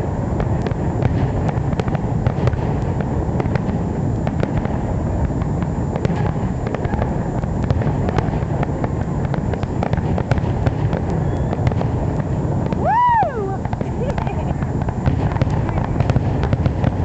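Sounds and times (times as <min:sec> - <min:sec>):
fireworks crackling pops: 0:00.0 - 0:17.0
steady low rumble: 0:00.0 - 0:17.0.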